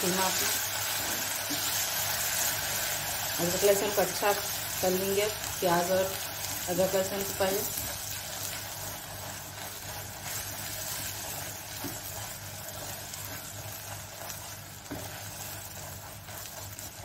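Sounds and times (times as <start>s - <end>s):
oil sizzling in a pan: 0.0s - 17.0s
spatula stirring food: 0.2s - 17.0s.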